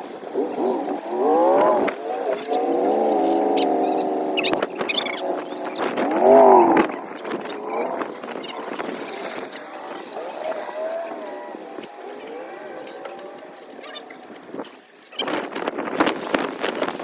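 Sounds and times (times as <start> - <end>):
cattle mooing: 0.3 - 14.2.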